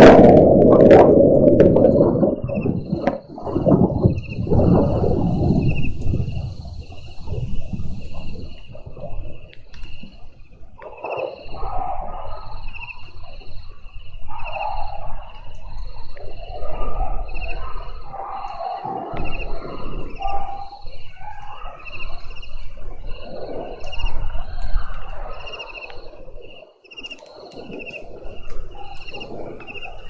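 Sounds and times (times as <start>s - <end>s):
thunder rumbling: 0.0s - 13.7s, 16.5s - 25.6s, 27.5s - 30.0s.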